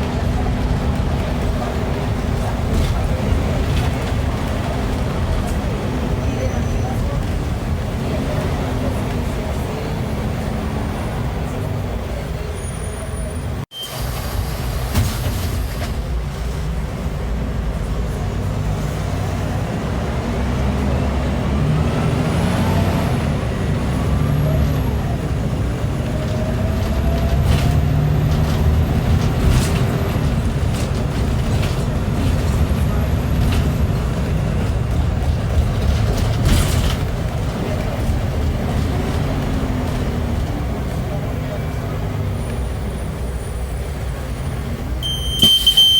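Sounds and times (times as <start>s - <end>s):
bus diesel engine under load: 0.0s - 45.9s.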